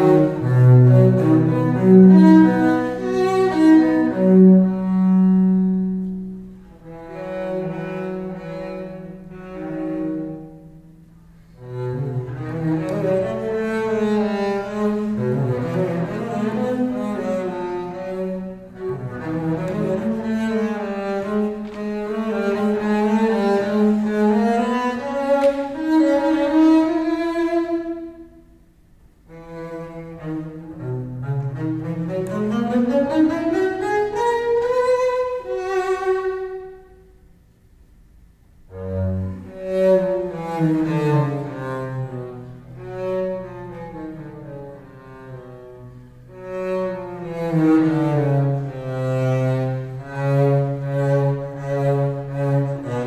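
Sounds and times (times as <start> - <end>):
bowed double bass melody: 0.0 - 53.0.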